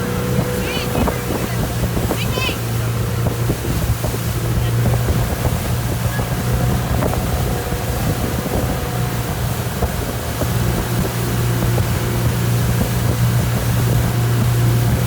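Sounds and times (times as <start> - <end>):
motorboat engine humming: 0.0 - 15.0
water rushing: 0.0 - 15.0
wind buffeting microphone: 0.0 - 15.0.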